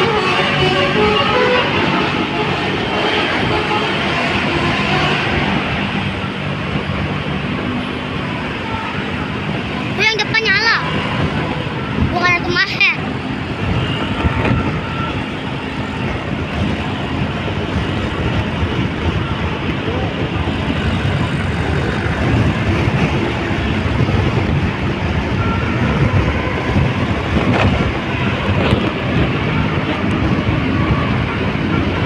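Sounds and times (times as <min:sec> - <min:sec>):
road and wind noise: 0:00.0 - 0:32.0
vehicle running: 0:00.0 - 0:32.0.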